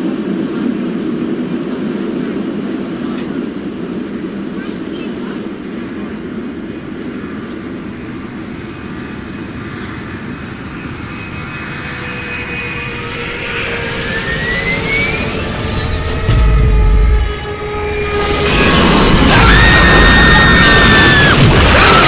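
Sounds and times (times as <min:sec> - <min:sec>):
jet engine whine rising in pitch: 0:00.0 - 0:22.0
jet engines rumbling: 0:00.0 - 0:22.0.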